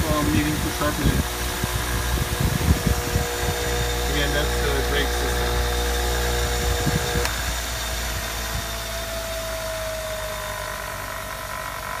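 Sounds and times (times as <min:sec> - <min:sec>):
bench grinder motor humming: 0:00.0 - 0:12.0.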